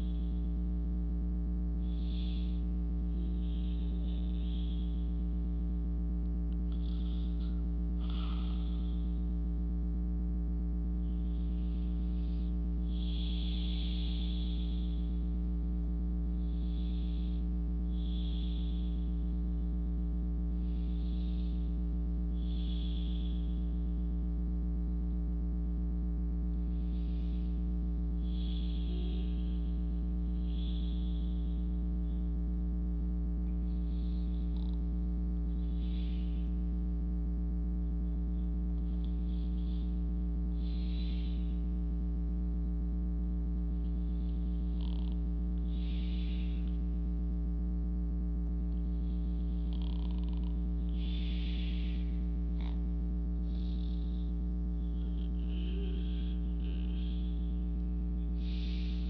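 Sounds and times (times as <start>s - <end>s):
soft breathing: 0.0s - 59.0s
steady low hum: 0.0s - 59.0s.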